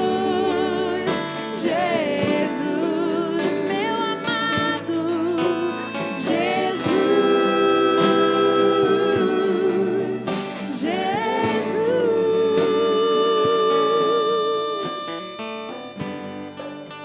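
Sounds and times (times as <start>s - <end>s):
person singing with vibrato: 0.0s - 17.0s
sustained instrumental accompaniment: 0.0s - 17.0s.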